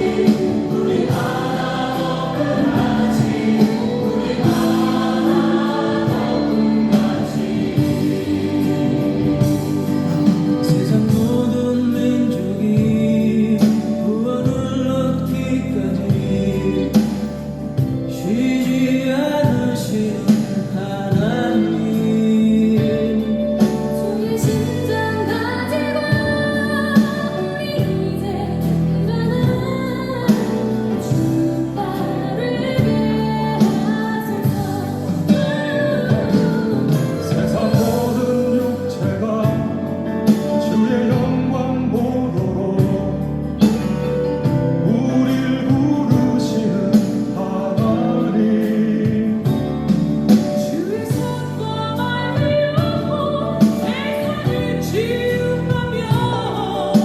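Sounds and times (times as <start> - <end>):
instrumental accompaniment: 0.0 - 57.0
worship song singing: 0.0 - 57.0.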